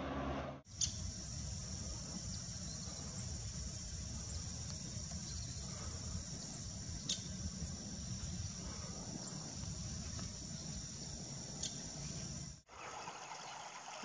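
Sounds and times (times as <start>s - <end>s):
high-pitched insect chorus: 0.7s - 13.6s.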